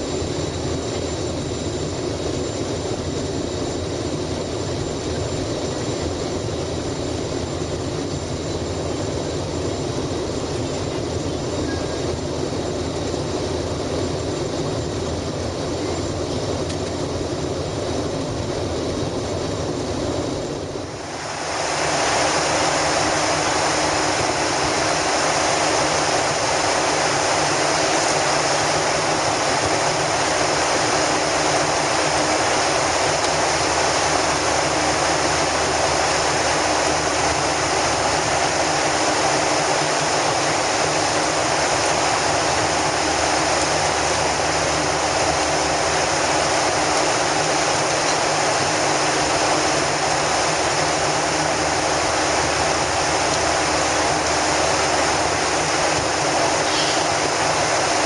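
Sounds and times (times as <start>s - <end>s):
jet cabin noise: 0.0s - 58.0s.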